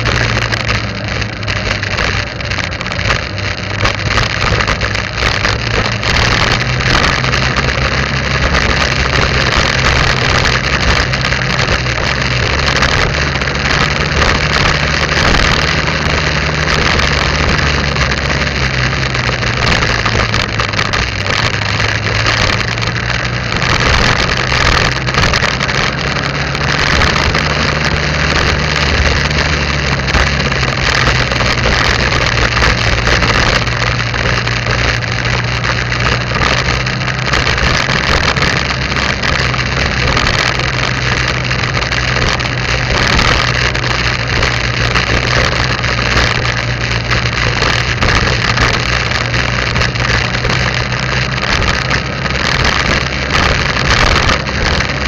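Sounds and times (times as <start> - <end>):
motorbike engine running: 0.0 - 55.0
wind and road noise: 0.0 - 55.0.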